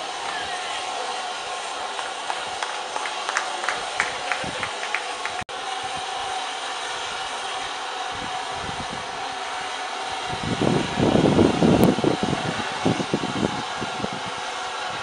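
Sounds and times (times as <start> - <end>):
steam locomotive hiss: 0.0 - 15.0.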